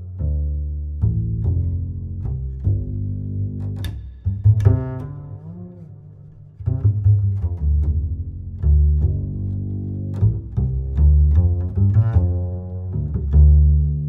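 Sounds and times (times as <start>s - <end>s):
deep bass line: 0.0s - 14.0s.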